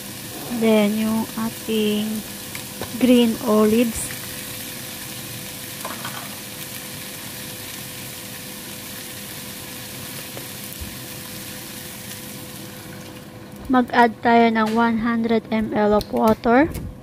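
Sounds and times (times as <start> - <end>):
vegetables sizzling in oil: 0.0 - 13.9.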